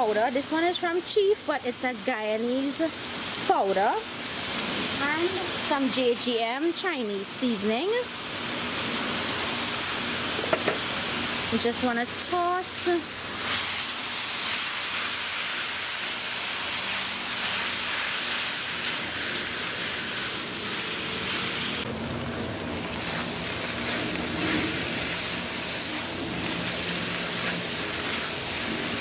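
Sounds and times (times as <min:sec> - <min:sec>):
noodles sizzling in a wok: 0:00.0 - 0:29.0.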